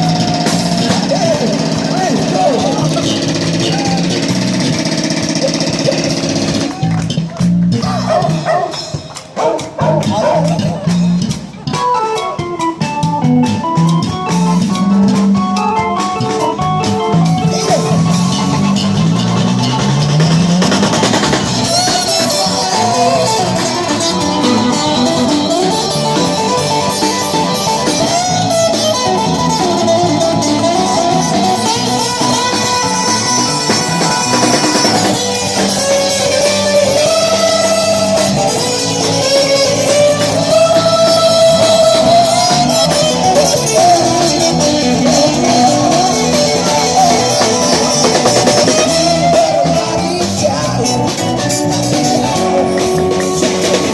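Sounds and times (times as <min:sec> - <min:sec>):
bass: 0:00.0 - 0:53.9
drums: 0:00.0 - 0:53.9
guitar melody: 0:00.0 - 0:53.9.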